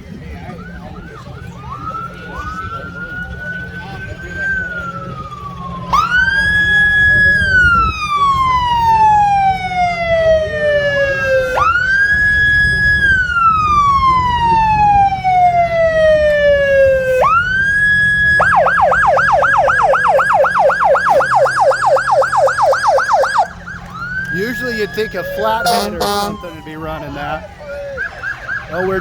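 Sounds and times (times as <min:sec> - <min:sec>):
emergency siren wailing: 0:00.0 - 0:29.0.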